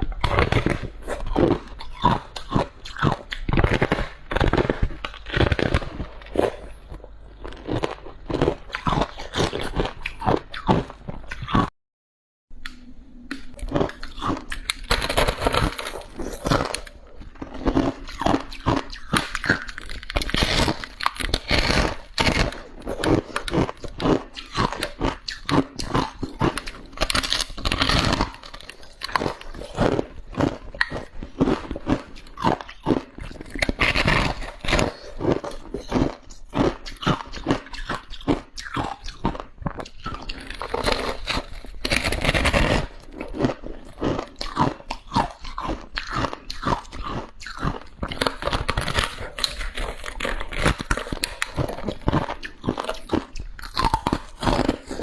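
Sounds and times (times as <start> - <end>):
chewing crunchy ice: 0.0 - 11.7, 12.6 - 55.0.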